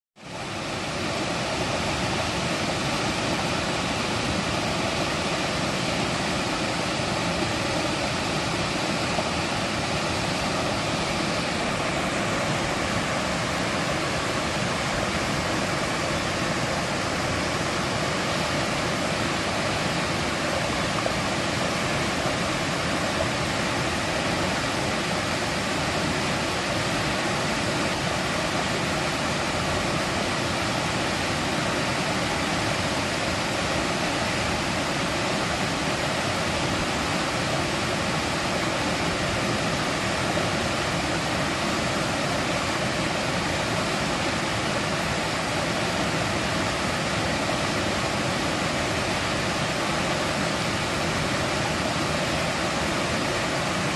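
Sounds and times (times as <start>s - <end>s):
stream rushing over rocks: 0.2s - 53.9s.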